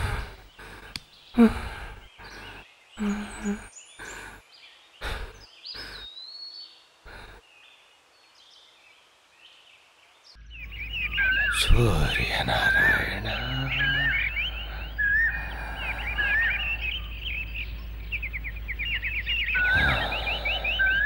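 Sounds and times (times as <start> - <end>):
birds chirping and whistling: 0.0 - 7.4, 10.4 - 21.0.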